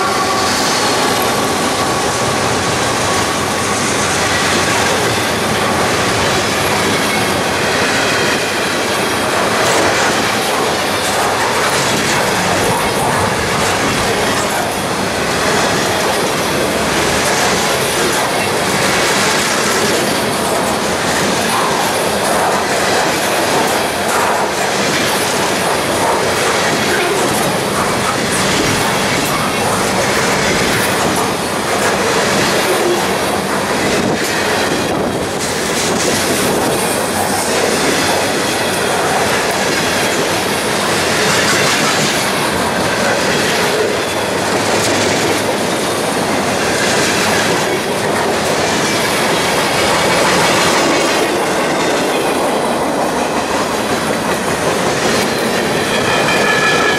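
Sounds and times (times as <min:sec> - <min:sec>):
freight train wheels rumbling: 0:00.0 - 0:56.9
wheels clacking over rail joints: 0:00.0 - 0:56.9.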